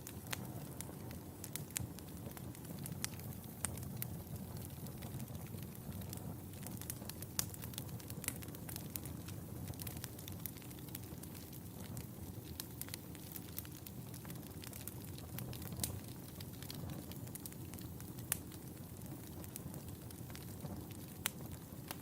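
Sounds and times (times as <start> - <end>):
low rumble and hiss of flames: 0.0 - 22.0
wood fire crackling and popping: 0.0 - 22.0.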